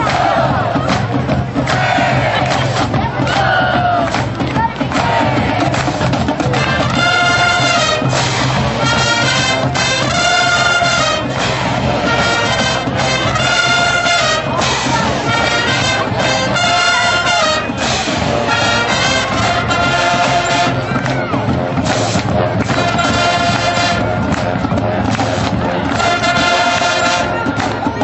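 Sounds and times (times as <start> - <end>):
marching band brass playing: 0.0 - 28.0.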